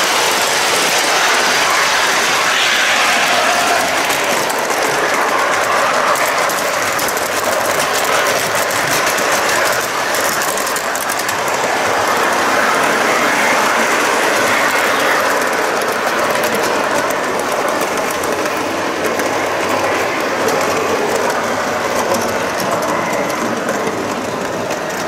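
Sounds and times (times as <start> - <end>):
model train wheels rattling on rails: 0.0 - 25.0.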